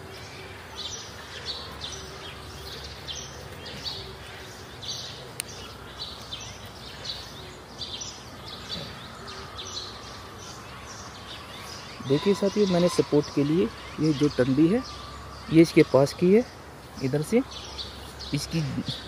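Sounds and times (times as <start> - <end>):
bird chirping: 0.0 - 19.0
outdoor background hiss: 0.0 - 19.0.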